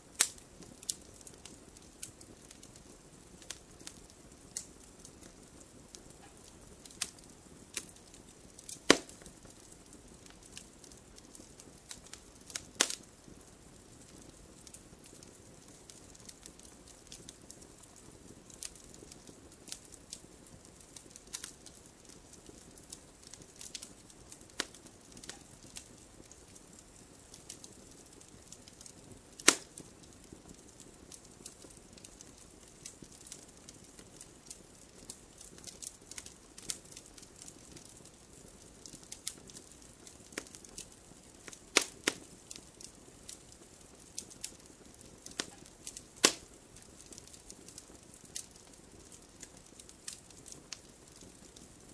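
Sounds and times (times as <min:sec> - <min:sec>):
campfire crackling and popping: 0:00.0 - 0:51.9
faint steady hiss: 0:00.0 - 0:51.9.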